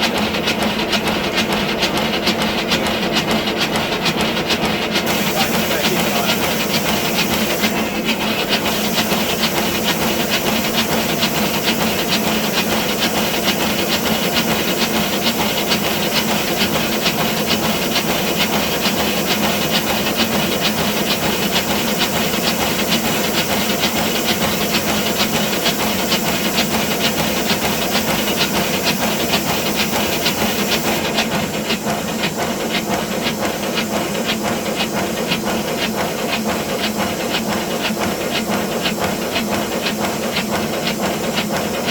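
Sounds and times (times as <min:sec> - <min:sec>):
model steam locomotive running: 0:00.0 - 0:41.9.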